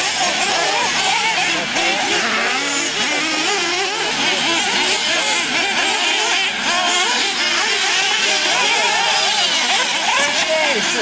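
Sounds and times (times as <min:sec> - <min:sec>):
rc buggy engines revving: 0:00.0 - 0:11.0.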